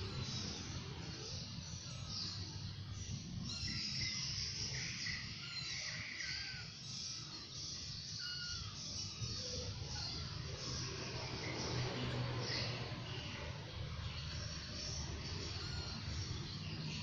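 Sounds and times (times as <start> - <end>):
small animals calling: 0.0 - 17.0.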